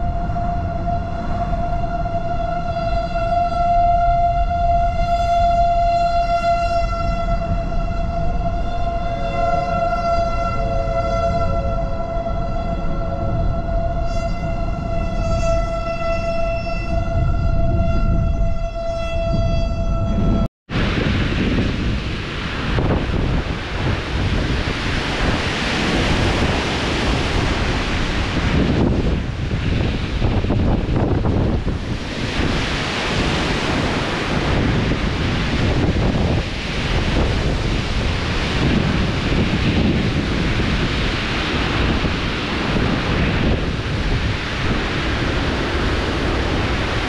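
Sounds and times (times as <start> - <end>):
strong wind on microphone: 0.0 - 47.0.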